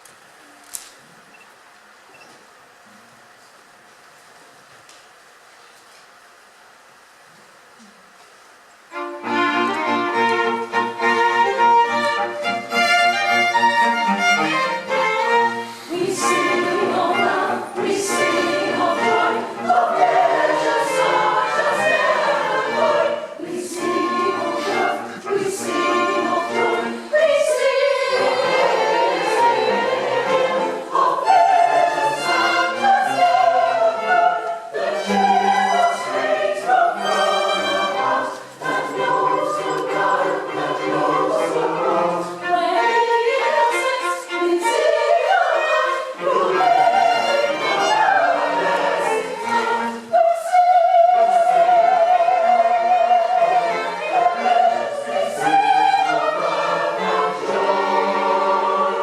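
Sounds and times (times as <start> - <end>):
choir singing: 8.9 - 59.0
string ensemble: 8.9 - 59.0.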